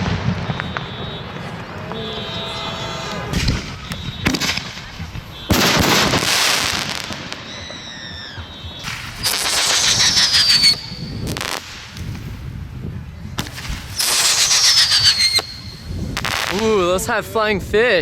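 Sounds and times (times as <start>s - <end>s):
firework whistles falling: 0.0s - 11.9s, 13.4s - 16.6s
firework hissing burst: 0.0s - 12.5s, 13.4s - 16.7s
firework cracks: 0.0s - 12.6s, 13.4s - 16.8s.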